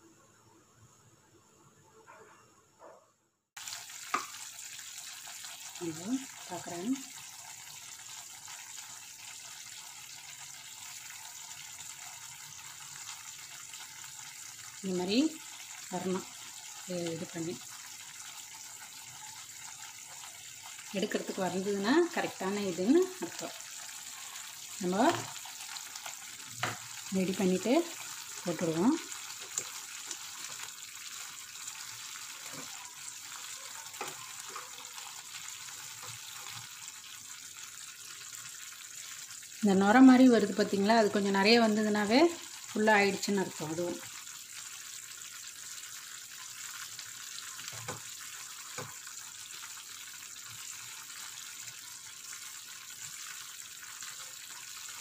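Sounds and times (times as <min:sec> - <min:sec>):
sugar mixture boiling in pan: 0:03.6 - 0:55.0.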